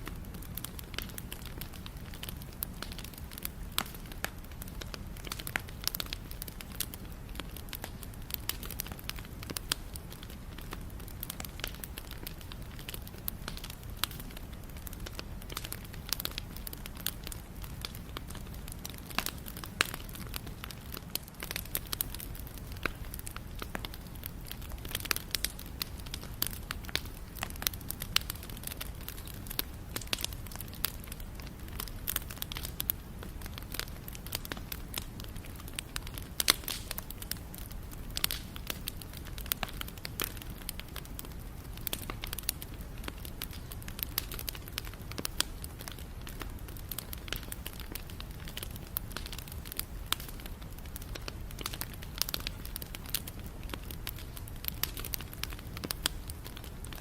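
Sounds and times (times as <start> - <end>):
bonfire crackling and popping: 0.0 - 57.0.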